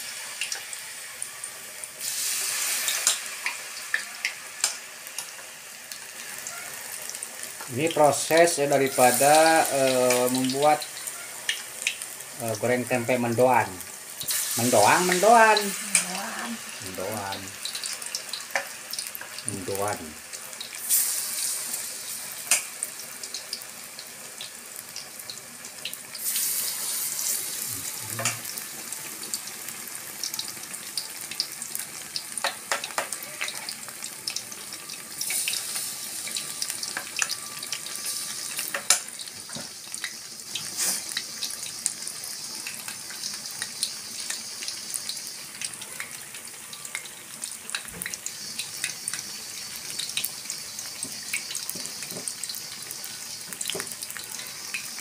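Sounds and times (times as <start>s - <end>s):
deep-frying sizzle with pops: 0.0s - 55.0s.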